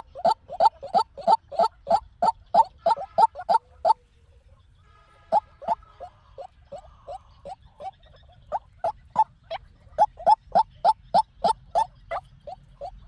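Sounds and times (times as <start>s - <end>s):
waterhen croaking calls: 0.0s - 4.0s, 5.2s - 13.0s.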